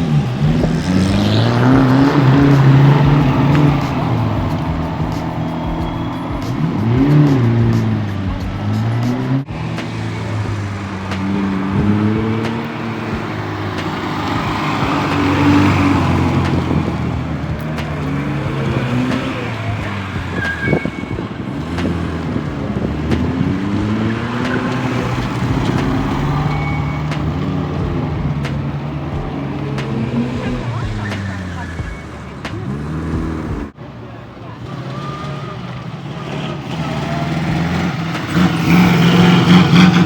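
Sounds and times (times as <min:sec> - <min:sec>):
car engines accelerating: 0:00.0 - 0:40.0.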